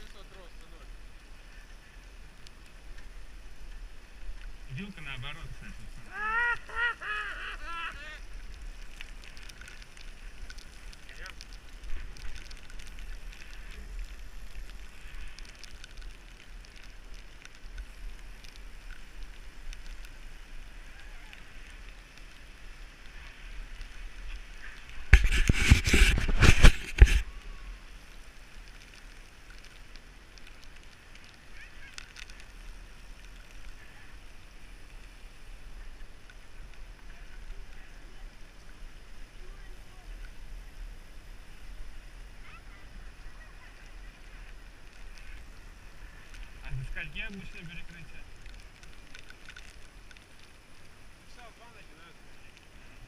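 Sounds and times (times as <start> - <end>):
bicycle tyres hissing on wet road: 0.0 - 53.0
wind: 0.0 - 53.0.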